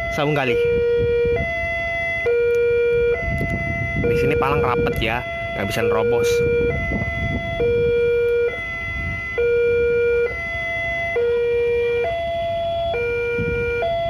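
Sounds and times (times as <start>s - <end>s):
two-tone level-crossing siren: 0.0s - 14.0s.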